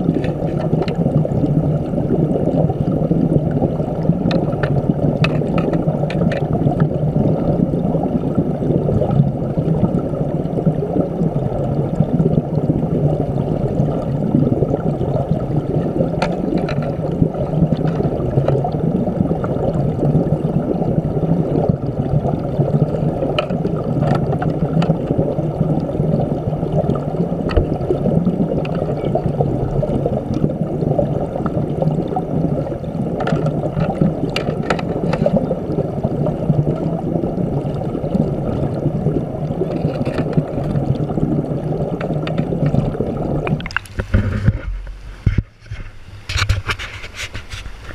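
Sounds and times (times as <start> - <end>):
muffled underwater river current: 0.0 - 47.9.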